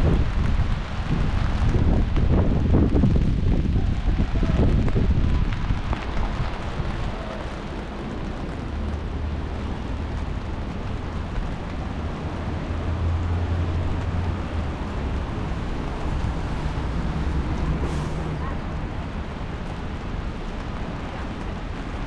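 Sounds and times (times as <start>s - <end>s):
even street hiss: 0.0s - 22.0s
low traffic rumble: 0.0s - 22.0s.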